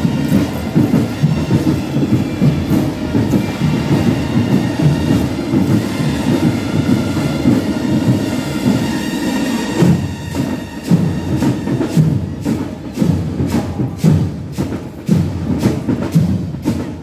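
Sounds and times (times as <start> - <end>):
marching band drums rumbling: 0.0 - 17.0.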